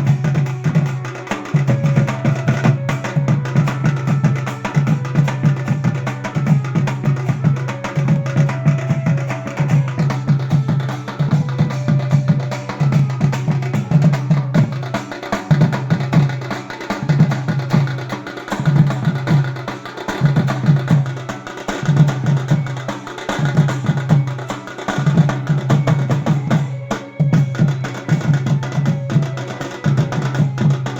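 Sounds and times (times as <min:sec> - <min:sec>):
fast clicking percussion: 0:00.0 - 0:30.9.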